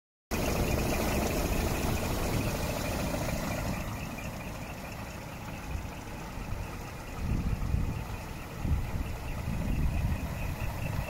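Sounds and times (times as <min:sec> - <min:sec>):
diesel truck engine idling: 0:00.3 - 0:11.0.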